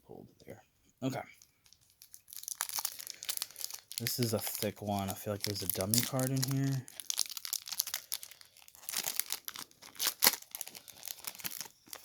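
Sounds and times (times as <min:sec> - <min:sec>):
wrapper tearing and crinkling: 0:01.6 - 0:12.0.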